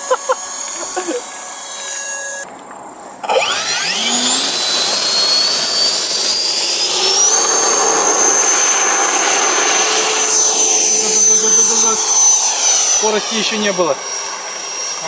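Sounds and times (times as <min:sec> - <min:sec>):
model jet engine whine: 0:00.0 - 0:15.0.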